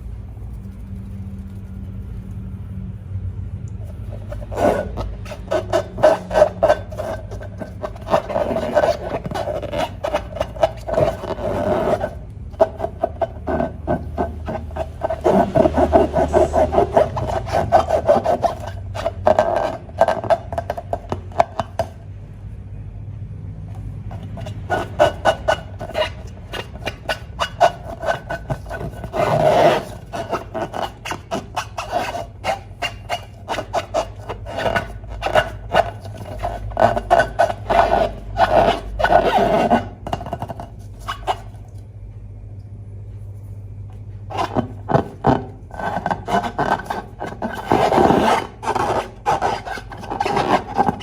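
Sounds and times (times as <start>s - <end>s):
squeaky rubber rubbing: 3.8s - 22.0s, 23.7s - 41.8s, 44.3s - 51.0s.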